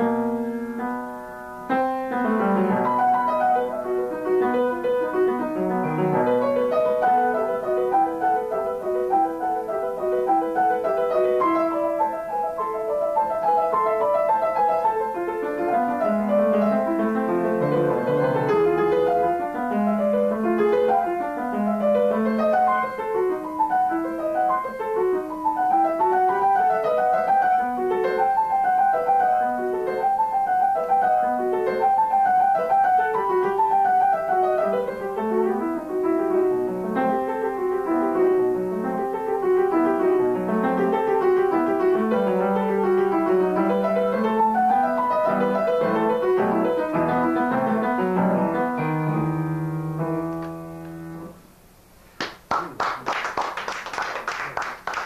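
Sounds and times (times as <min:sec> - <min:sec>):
solo grand piano classical piece: 0:00.0 - 0:55.0.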